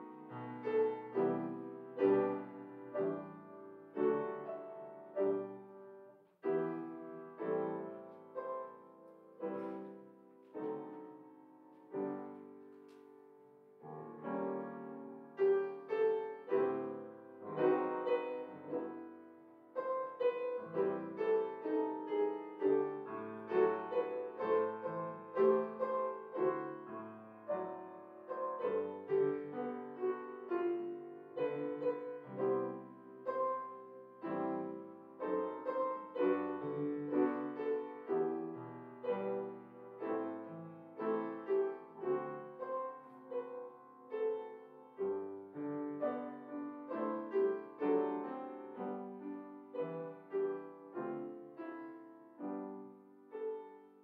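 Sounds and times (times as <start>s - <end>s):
solo grand piano piece: 0.0s - 54.0s.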